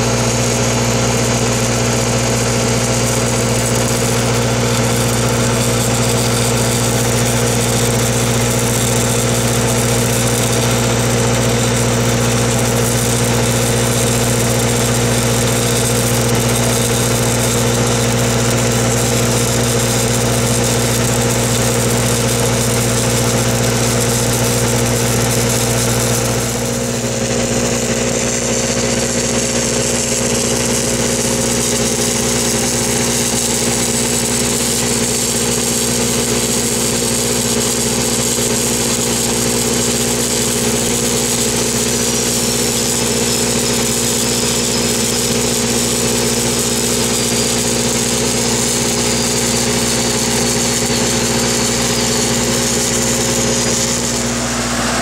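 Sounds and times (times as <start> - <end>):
welding machine engine humming: 0.0 - 55.0.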